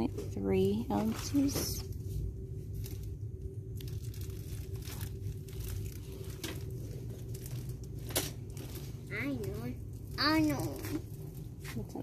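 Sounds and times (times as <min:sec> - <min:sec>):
steady low hum: 0:00.0 - 0:12.0
plastic packaging crinkling: 0:01.0 - 0:11.6.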